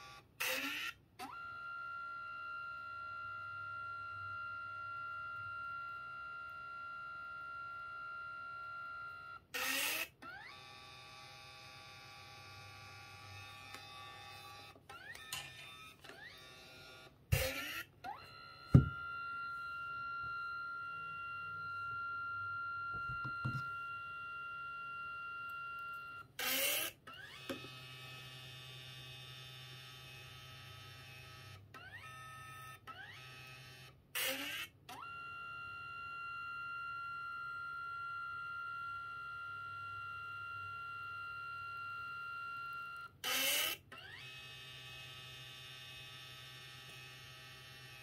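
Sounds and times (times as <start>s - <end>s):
photo printer motor whining: 0.0s - 37.4s, 40.4s - 48.0s.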